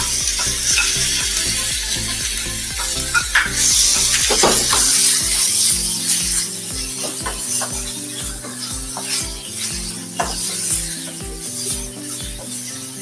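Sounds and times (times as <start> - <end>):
background music with steady beat: 0.0 - 13.0
chicken sizzling in oil: 0.0 - 13.0.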